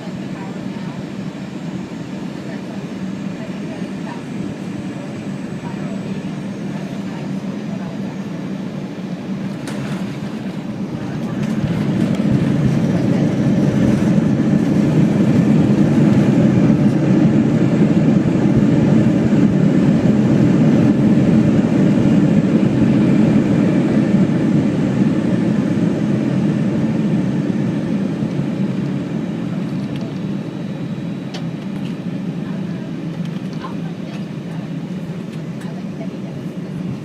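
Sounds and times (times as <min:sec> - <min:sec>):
jet engines roaring in reverse thrust: 0:00.0 - 0:37.0.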